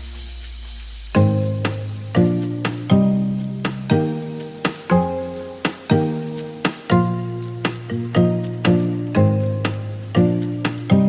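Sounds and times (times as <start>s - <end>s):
plucked notes over held bass: 1.2s - 11.0s.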